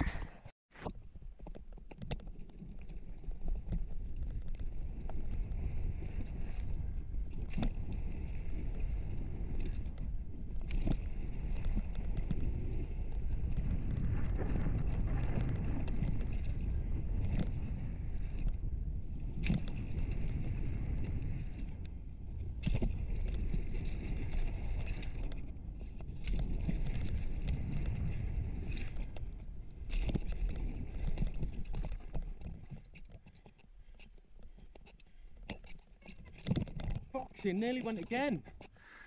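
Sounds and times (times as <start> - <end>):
wind noise on microphone: 0.0 - 39.0.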